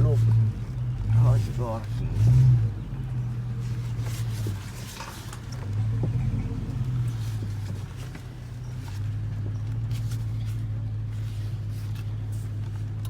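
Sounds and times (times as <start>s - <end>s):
pickup engine running: 0.0s - 13.0s.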